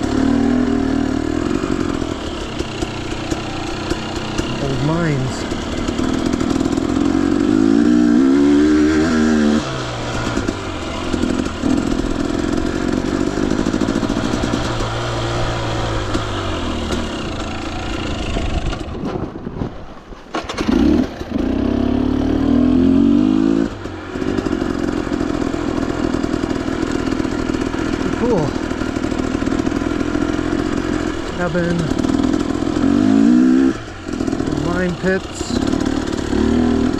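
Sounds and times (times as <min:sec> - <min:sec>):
dirt bike engine revving: 0:00.0 - 0:19.0, 0:20.4 - 0:36.9.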